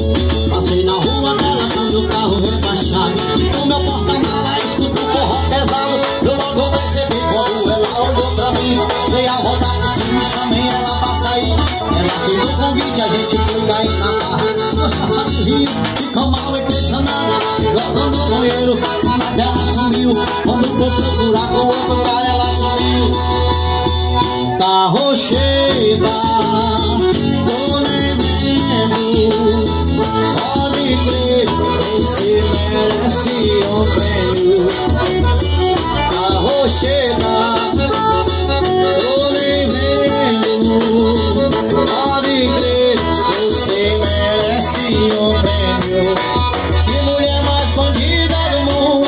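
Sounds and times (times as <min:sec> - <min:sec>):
accordion melody: 0:00.0 - 0:49.0
bass drum beats: 0:00.0 - 0:49.0.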